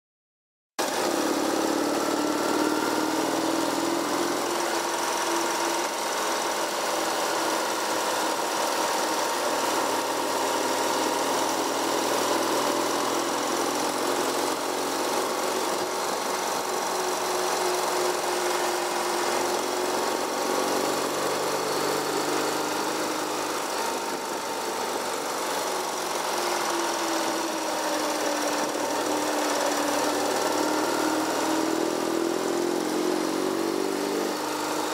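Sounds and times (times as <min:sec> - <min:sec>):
vehicle engine running: 0:00.8 - 0:34.9.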